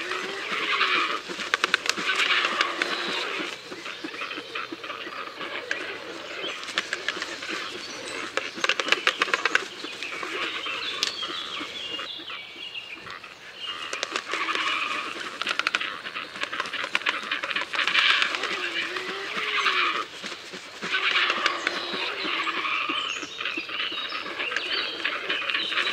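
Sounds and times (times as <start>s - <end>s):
birds chirping and chattering: 0.0s - 25.9s.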